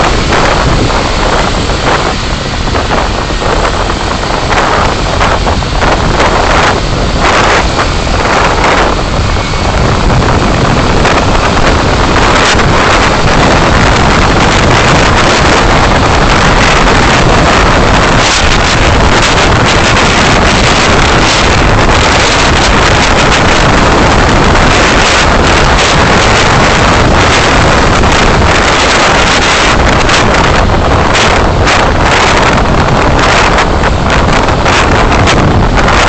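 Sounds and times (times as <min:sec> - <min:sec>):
car road and wind noise: 0:00.0 - 0:36.0.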